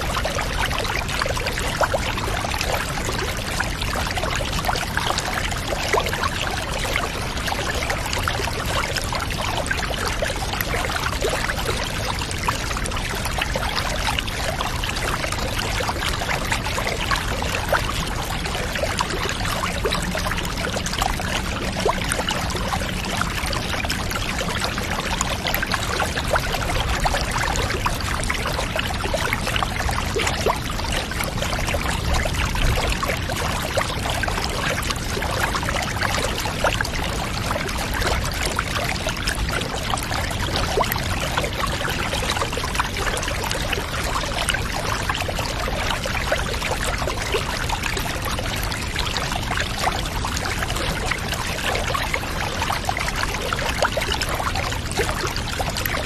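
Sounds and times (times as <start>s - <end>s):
water pouring and trickling: 0.0s - 56.0s.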